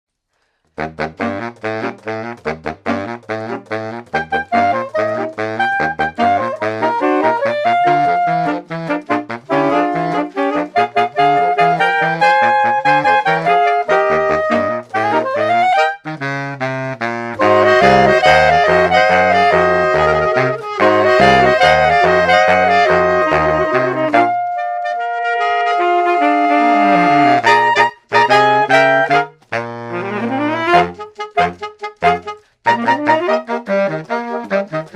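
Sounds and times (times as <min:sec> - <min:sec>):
bouncing bass line: 0:00.8 - 0:34.9
jazz music with horn melody: 0:00.8 - 0:34.9.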